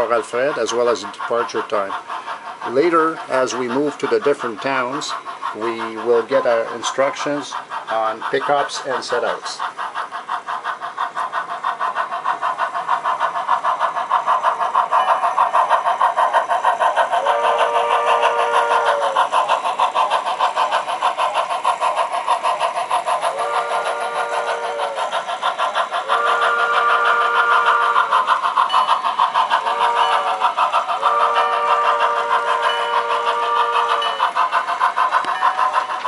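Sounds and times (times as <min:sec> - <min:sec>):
model steam locomotive chuffing: 0:00.0 - 0:36.0.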